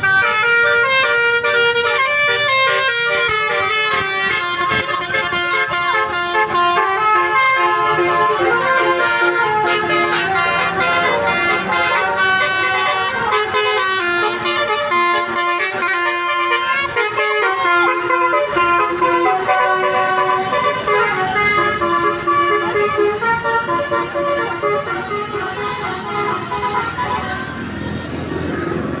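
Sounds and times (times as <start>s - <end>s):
multi-tone bus horn tune: 0.0s - 29.0s.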